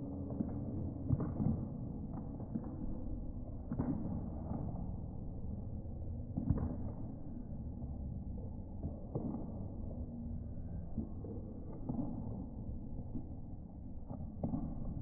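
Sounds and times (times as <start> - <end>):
gym background hum: 0.0 - 15.0.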